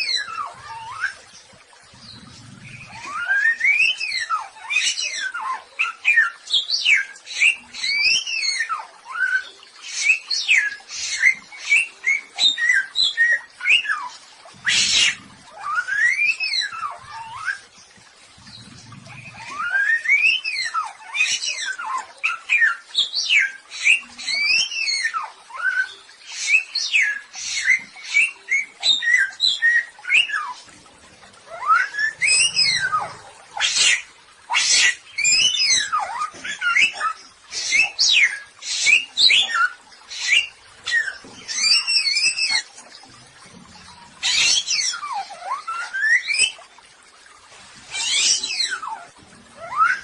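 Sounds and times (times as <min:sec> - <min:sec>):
harsh buzzy bird calls: 0:00.0 - 0:46.7.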